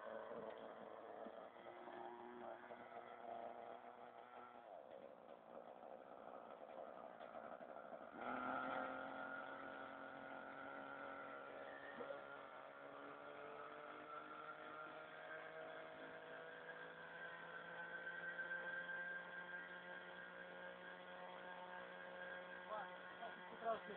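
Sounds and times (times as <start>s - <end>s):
helicopter motor and rotor whine: 0.0s - 23.9s.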